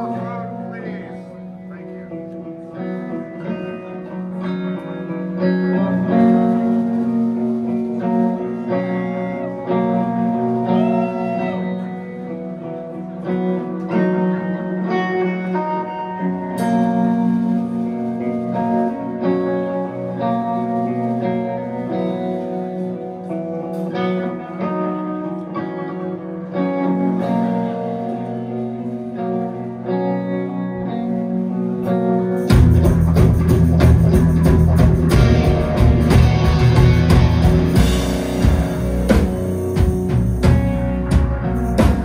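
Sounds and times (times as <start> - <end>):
guitar over held chords: 0.0 - 42.0
live band playing: 0.0 - 42.0.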